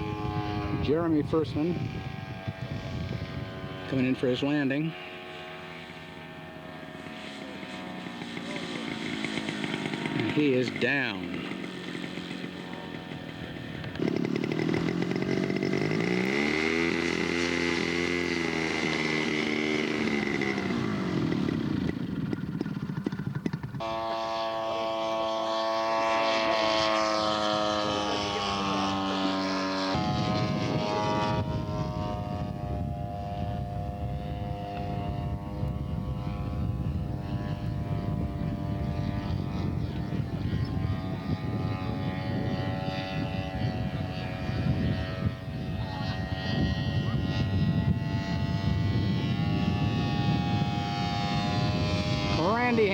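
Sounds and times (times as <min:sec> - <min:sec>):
model airplane engine droning: 0:00.0 - 0:52.9.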